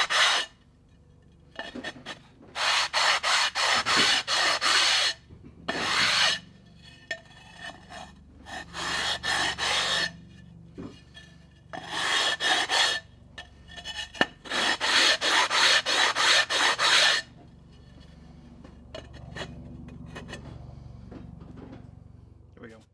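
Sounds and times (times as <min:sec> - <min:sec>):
file rasping on hard surface: 0:00.0 - 0:00.6, 0:01.6 - 0:18.2, 0:19.0 - 0:20.6.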